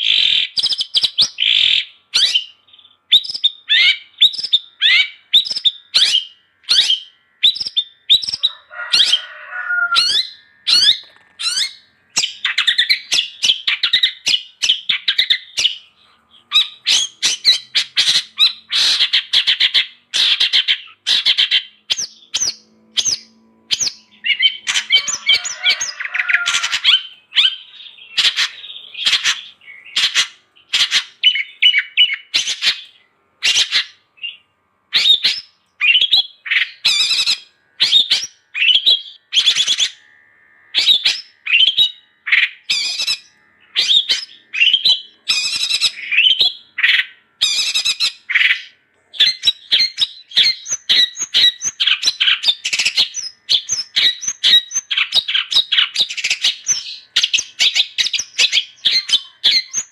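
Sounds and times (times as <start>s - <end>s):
bird harsh squawking song: 0.0s - 59.9s.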